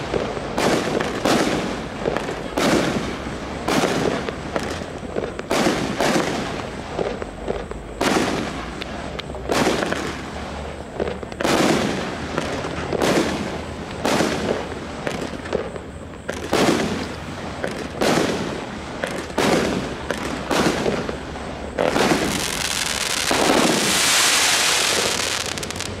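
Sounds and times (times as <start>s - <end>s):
firework hissing: 0.0s - 26.0s
firework shots: 0.0s - 26.0s.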